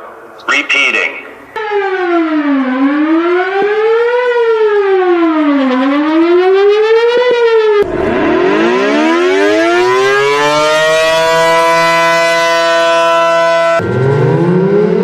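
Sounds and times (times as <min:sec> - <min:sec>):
warning siren winding up: 0:01.6 - 0:15.0.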